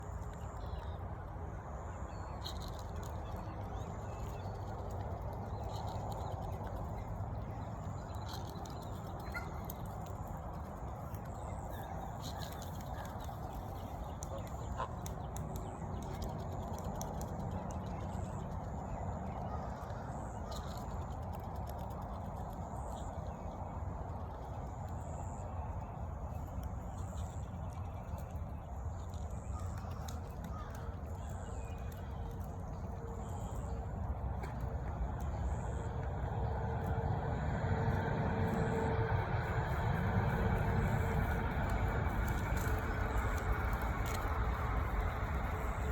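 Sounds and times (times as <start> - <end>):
outdoor background noise: 0.0 - 45.9.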